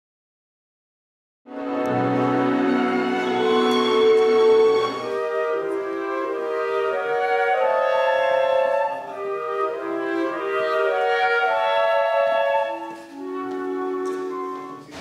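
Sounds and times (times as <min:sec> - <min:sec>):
orchestral wind instruments chords: 0:01.5 - 0:15.0.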